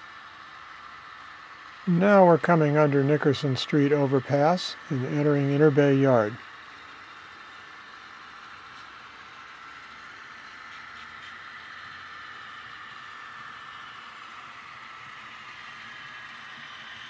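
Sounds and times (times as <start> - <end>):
model train mechanical whine: 0.0 - 17.0.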